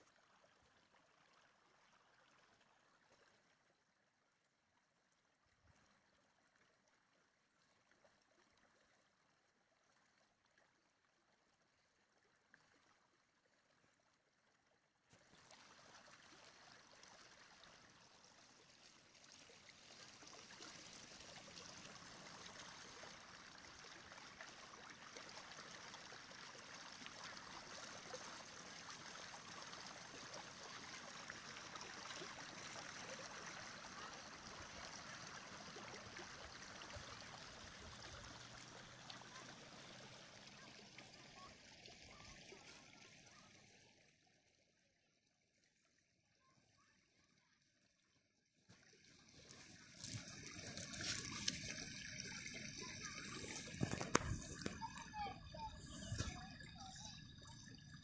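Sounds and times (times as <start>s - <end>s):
stream running under ice: 0.0s - 58.0s.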